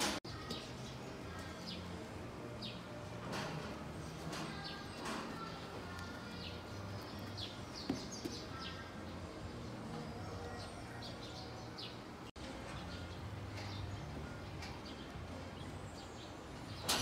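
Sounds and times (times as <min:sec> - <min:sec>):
small birds chirping: 0:00.3 - 0:03.2, 0:03.8 - 0:17.0.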